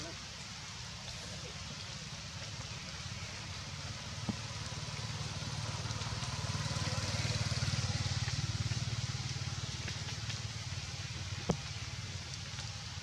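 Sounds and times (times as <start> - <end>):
vehicle engine running: 2.2 - 13.0.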